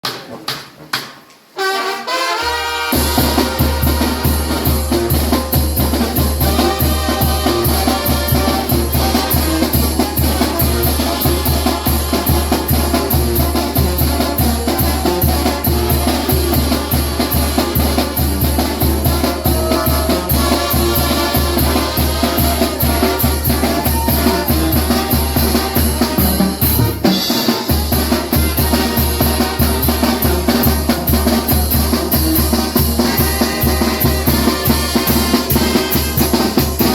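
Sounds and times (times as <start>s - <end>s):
trumpet playing: 1.5s - 36.9s
fast drum-kit beat: 2.9s - 36.9s.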